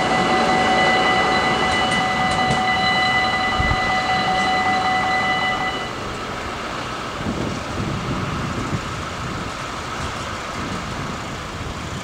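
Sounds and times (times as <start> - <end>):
diesel locomotive engine: 0.0 - 12.0
wind gusts on microphone: 0.0 - 12.0.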